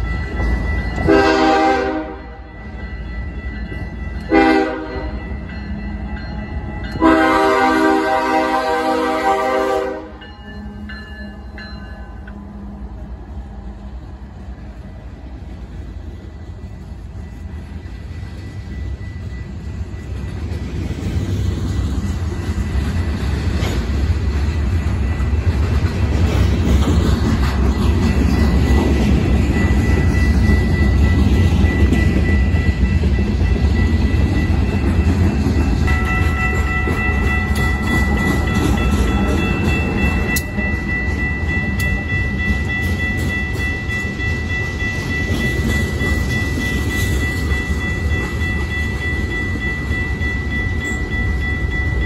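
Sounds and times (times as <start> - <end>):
clickety-clack of train cars: 0.0 - 52.0
diesel locomotive passing: 0.0 - 52.0
train wheels rumbling on rail: 0.0 - 52.0.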